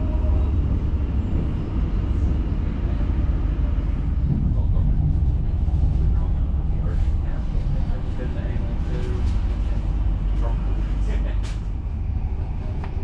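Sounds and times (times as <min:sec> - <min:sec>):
train coach rumbling on track: 0:00.0 - 0:13.0.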